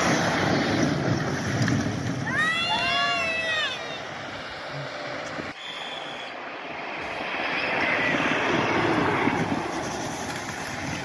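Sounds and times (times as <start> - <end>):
tyres rushing on asphalt: 0.0 - 11.0.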